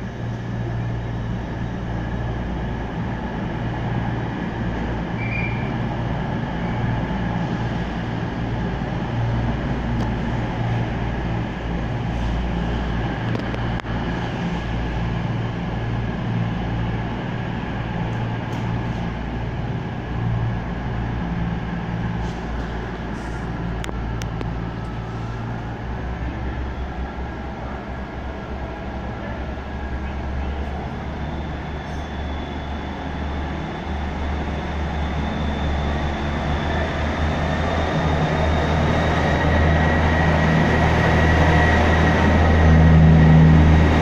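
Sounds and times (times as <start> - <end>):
diesel train engines droning: 0.0 - 44.0.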